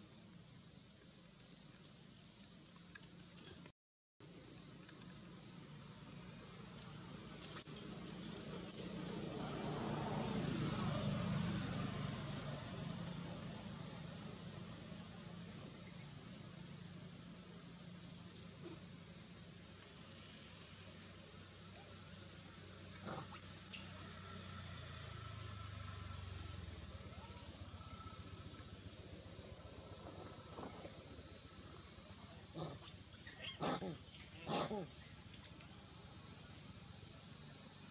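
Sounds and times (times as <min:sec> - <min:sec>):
high-pitched insect drone: 0:04.3 - 0:37.9.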